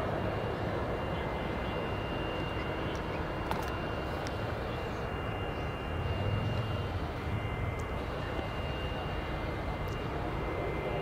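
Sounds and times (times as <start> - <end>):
airliner engine rumble: 0.0 - 11.0.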